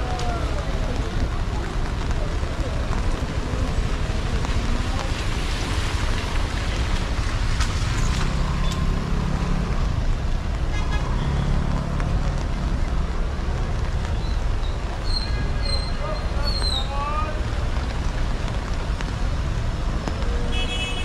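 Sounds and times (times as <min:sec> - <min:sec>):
car engines passing: 0:00.0 - 0:21.0
rain hissing: 0:00.0 - 0:21.0
tyres on wet road: 0:00.0 - 0:21.0.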